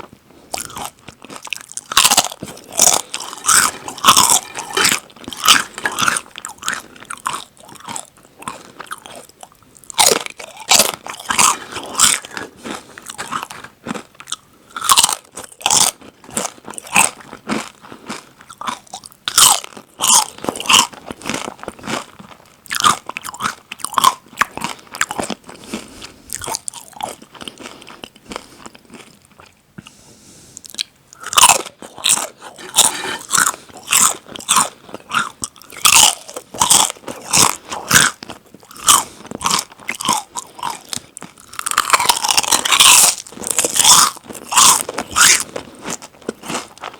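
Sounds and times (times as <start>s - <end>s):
crunching chips being chewed: 0.1s - 30.0s, 30.6s - 46.9s.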